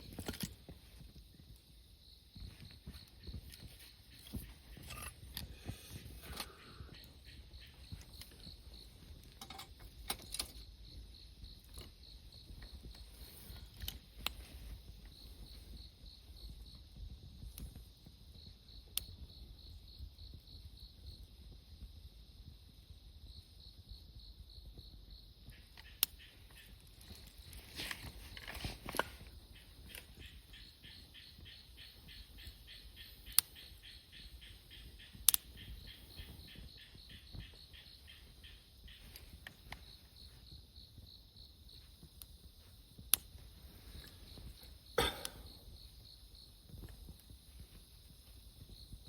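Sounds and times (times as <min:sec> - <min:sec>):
campfire crackles: 0:00.0 - 0:49.0
insects chirping in pulses: 0:00.0 - 0:49.0.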